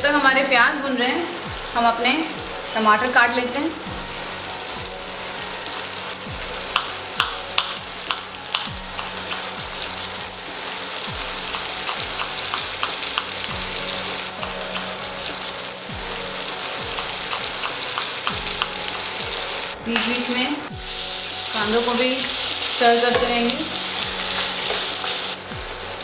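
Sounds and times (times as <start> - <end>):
onions sizzling in a pan: 0.0 - 26.0.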